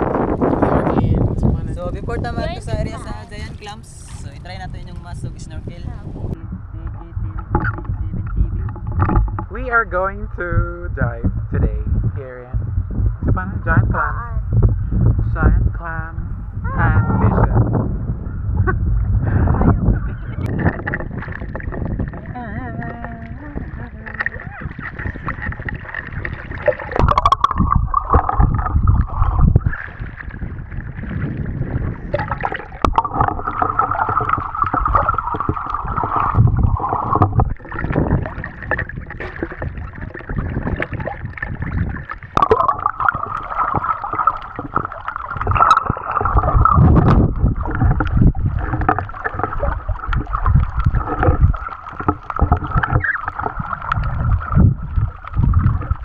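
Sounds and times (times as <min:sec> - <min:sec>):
water sloshing and splashing: 0:00.0 - 0:09.7, 0:16.8 - 0:56.0
muffled underwater rumble: 0:00.0 - 0:56.0.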